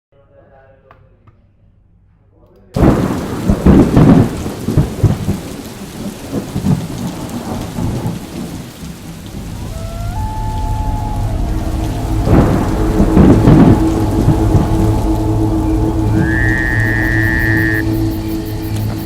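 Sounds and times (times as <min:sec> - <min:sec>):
heavy rain: 0:02.8 - 0:19.0
thunder rumbling: 0:02.8 - 0:19.0.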